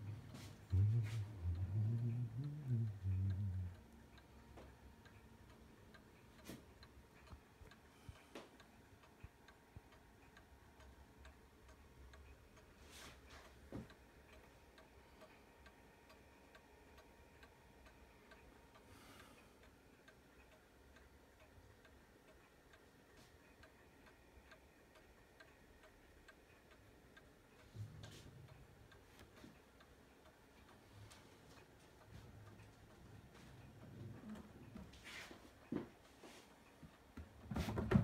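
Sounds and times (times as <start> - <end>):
clock ticking faintly: 0.0 - 38.0.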